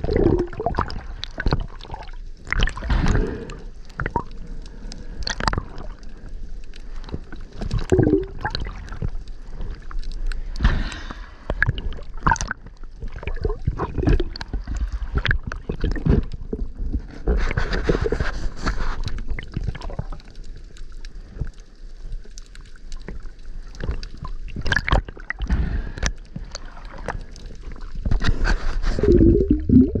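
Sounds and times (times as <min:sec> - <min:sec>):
seawater sloshing and gurgling: 0:00.0 - 0:20.3, 0:23.0 - 0:30.0.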